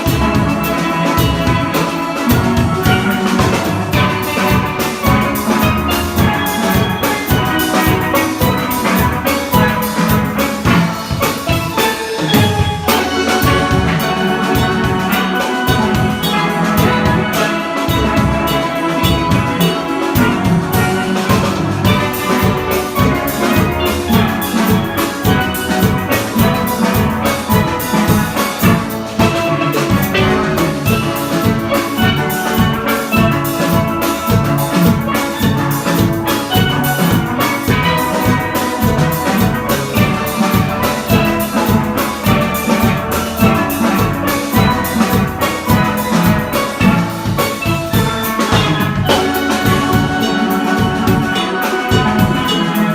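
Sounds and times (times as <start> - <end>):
drums and percussion: 0.0 - 52.9
steel pan ensemble playing: 0.0 - 52.9.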